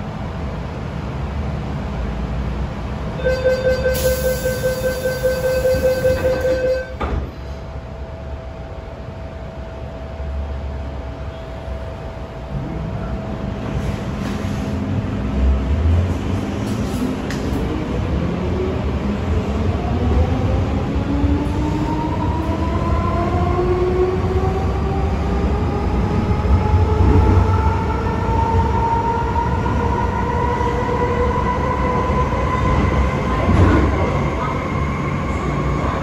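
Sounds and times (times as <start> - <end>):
wheels rumbling on track: 0.0 - 36.0.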